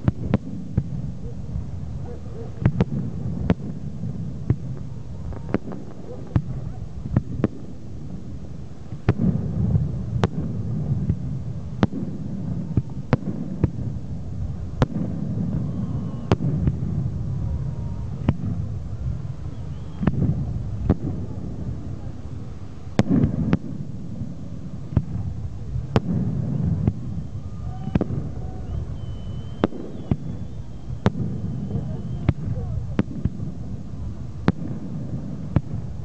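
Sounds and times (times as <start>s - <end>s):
distant fireworks rumble: 0.0s - 36.0s
firework bangs: 0.0s - 36.0s.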